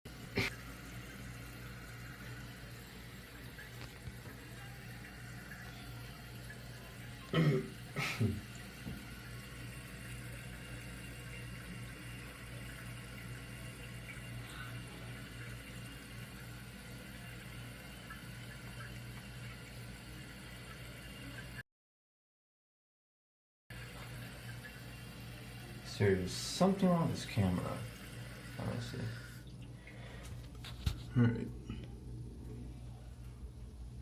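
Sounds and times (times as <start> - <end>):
toilet tank refilling with hiss: 0.1 - 21.6, 23.7 - 30.2.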